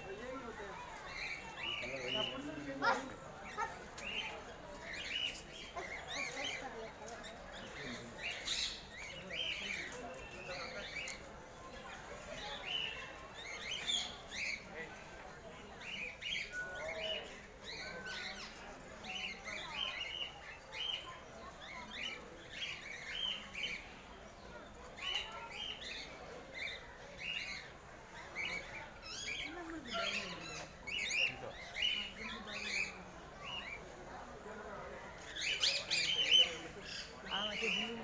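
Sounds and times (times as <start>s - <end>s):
caged birds chirping and squawking: 0.1s - 38.0s.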